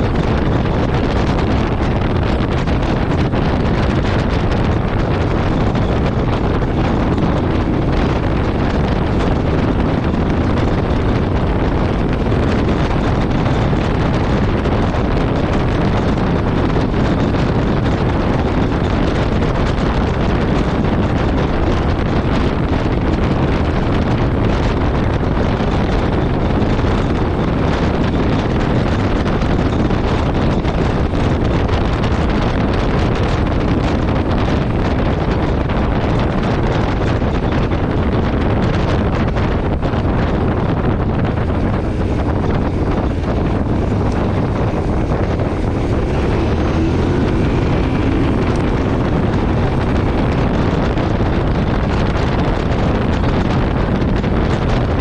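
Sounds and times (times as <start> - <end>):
motorcycle running: 0.0 - 55.0
wind rush over microphone: 0.0 - 55.0.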